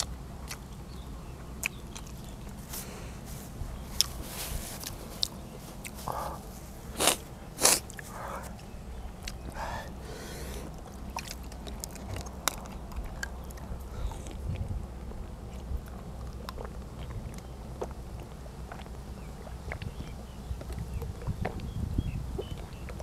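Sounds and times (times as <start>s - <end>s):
person chewing: 0.0s - 21.8s.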